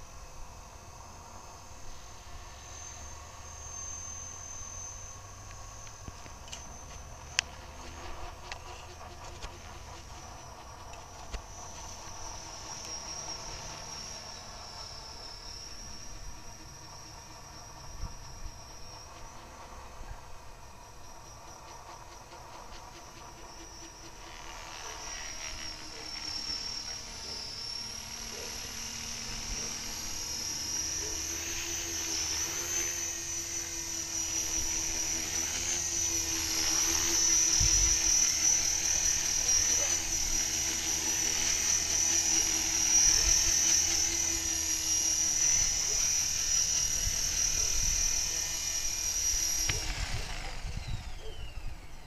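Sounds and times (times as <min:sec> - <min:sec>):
rc helicopter rotor whine: 0:00.0 - 0:52.0.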